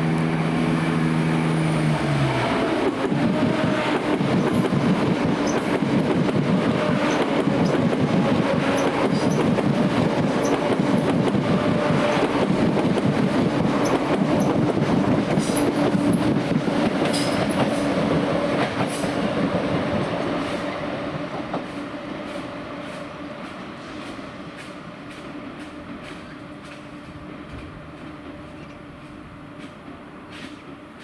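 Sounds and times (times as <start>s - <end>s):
train drone: 0.0s - 31.0s
rattling train wheels: 2.0s - 31.0s.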